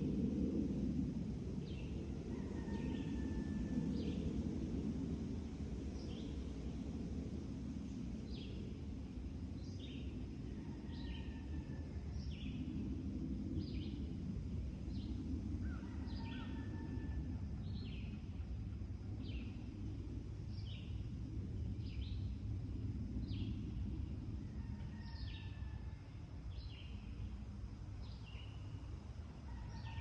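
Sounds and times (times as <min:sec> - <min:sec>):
steady low rumble: 0:00.0 - 0:29.6.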